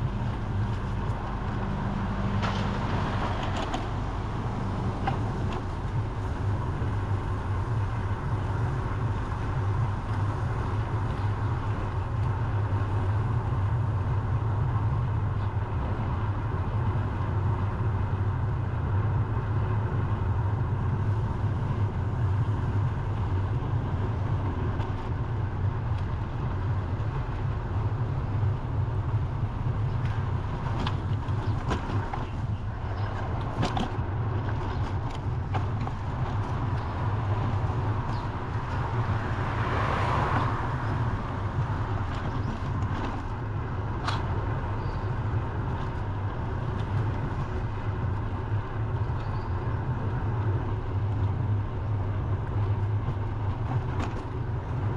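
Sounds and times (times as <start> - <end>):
road traffic: 0.0 - 54.9
wind rumble on microphone: 0.0 - 54.9.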